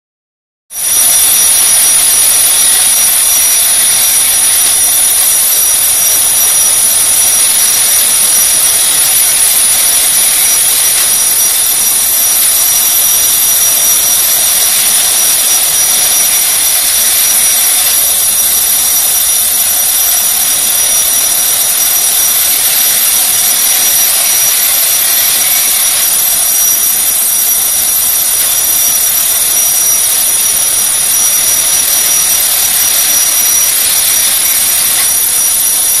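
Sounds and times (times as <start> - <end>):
clockwork toy motor whirring: 0.8 - 36.0.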